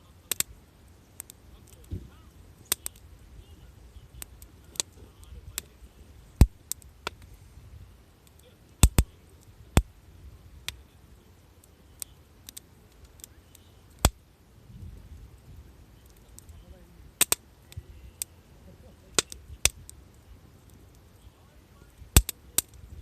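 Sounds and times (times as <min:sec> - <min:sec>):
campfire wood crackling: 0:00.0 - 0:23.0.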